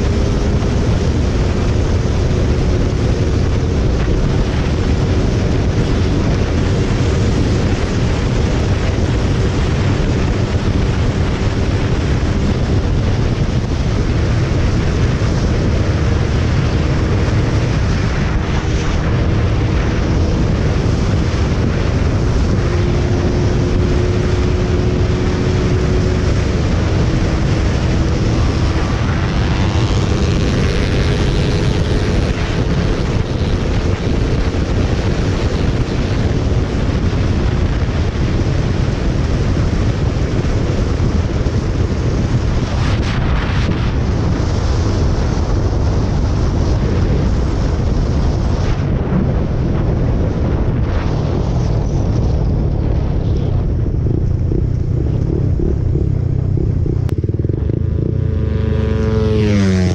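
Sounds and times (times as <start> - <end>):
high whine: 0.0 - 59.9
motorcycle engine: 0.0 - 59.9
wind buffeting microphone: 0.0 - 59.9.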